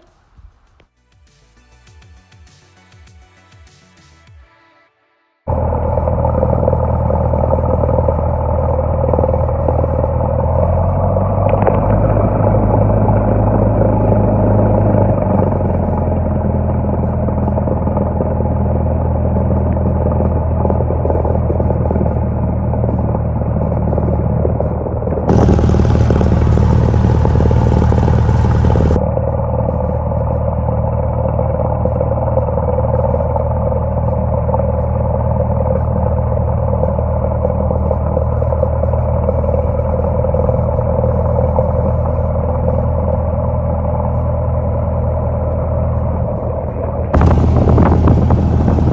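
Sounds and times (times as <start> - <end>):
plane engine and propeller droning: 5.5 - 48.9.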